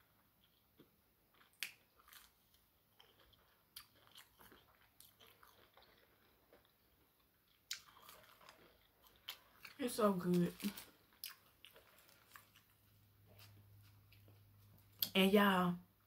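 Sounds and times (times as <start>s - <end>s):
person chewing food: 0.0s - 15.1s.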